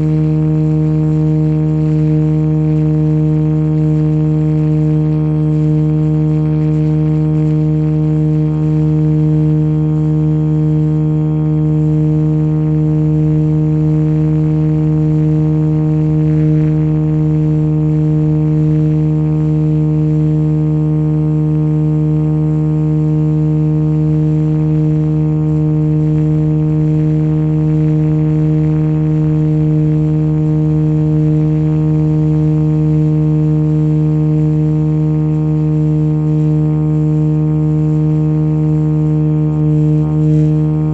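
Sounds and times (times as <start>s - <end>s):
model helicopter buzzing hum: 0.0s - 40.9s.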